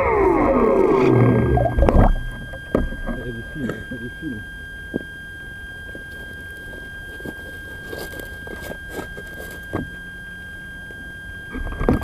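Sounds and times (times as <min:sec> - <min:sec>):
high electronic whine: 0:00.0 - 0:12.0.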